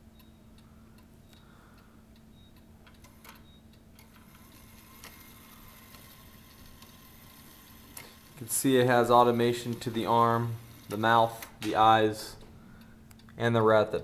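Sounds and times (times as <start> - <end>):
clock mechanism ticking and clicking: 0.0 - 12.1.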